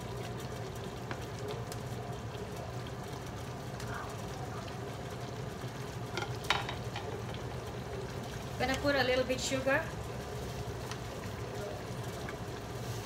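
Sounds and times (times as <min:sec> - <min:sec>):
sauce simmering in a skillet: 0:00.0 - 0:13.0.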